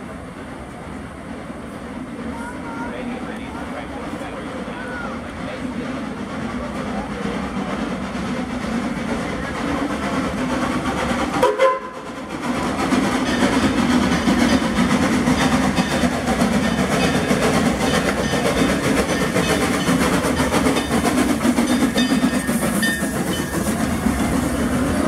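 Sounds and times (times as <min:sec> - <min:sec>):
steam train rumbling and clattering: 0:00.0 - 0:25.0.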